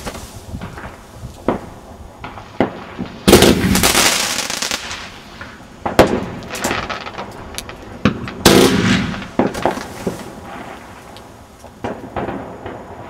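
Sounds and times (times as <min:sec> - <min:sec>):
fireworks bursting: 0:00.0 - 0:13.0
fireworks crackling: 0:00.0 - 0:13.0.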